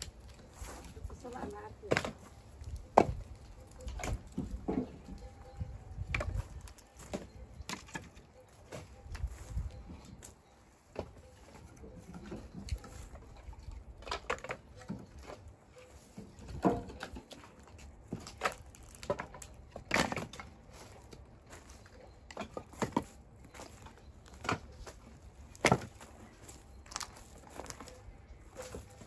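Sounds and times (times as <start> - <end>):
firewood logs clunking: 0.0 - 29.0.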